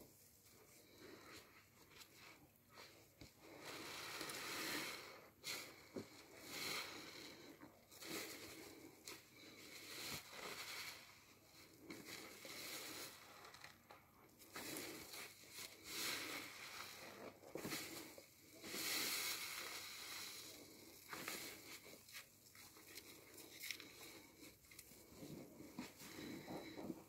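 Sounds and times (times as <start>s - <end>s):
sponge squelching in soapy foam: 0.1s - 27.0s.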